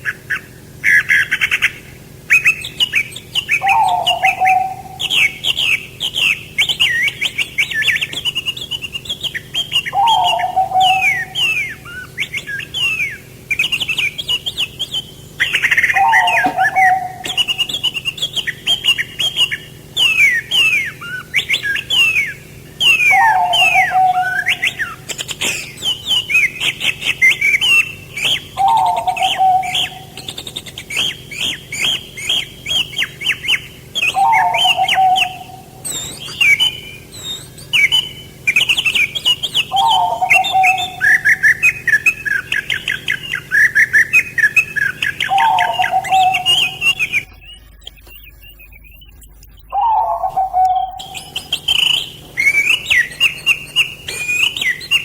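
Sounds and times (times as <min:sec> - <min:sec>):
songbirds chirping and singing: 0:00.0 - 0:55.0
lower short bird call: 0:00.1 - 0:47.6.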